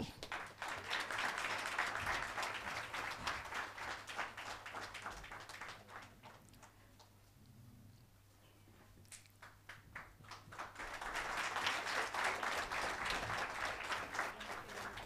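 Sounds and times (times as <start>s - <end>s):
audience applause: 0.0s - 6.7s, 9.4s - 15.0s.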